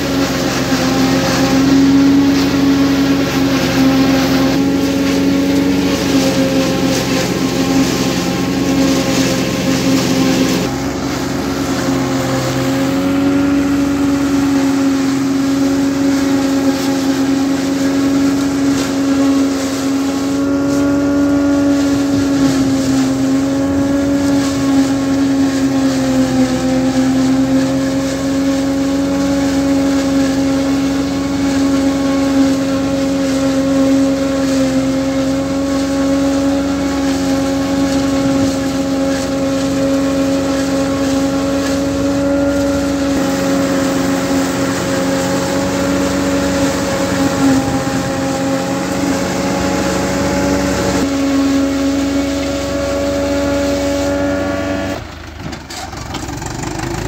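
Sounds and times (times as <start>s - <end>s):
forage harvester chopping: 0.0s - 57.0s
tractor diesel engine droning: 0.0s - 57.0s.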